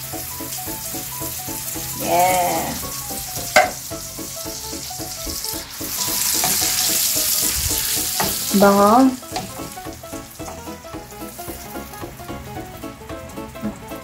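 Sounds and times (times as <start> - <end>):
light background music: 0.0 - 14.0
tomatoes sizzling in frying pan: 0.0 - 14.0.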